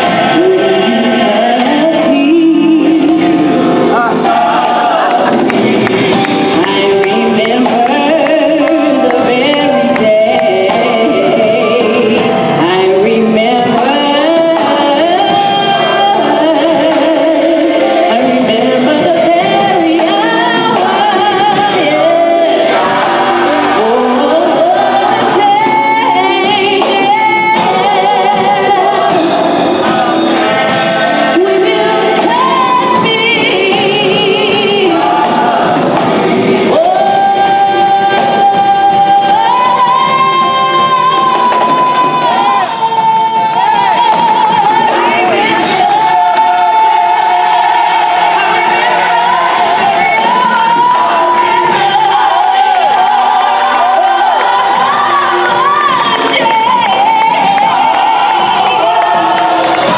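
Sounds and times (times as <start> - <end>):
gospel choir singing: 0.0 - 59.9.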